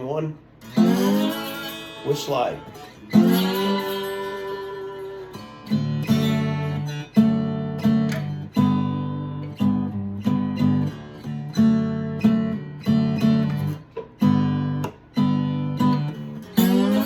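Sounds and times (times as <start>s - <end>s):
slide acoustic guitar chords: 0.0s - 17.0s.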